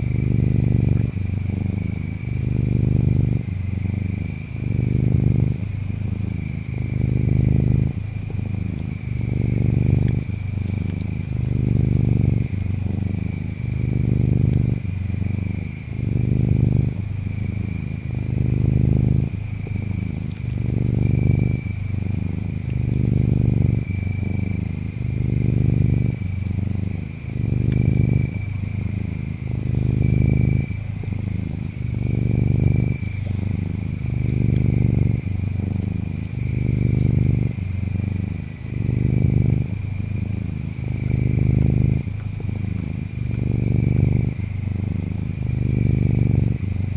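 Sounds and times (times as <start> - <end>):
cat purring: 0.0 - 46.9
insects chirping: 0.0 - 46.9.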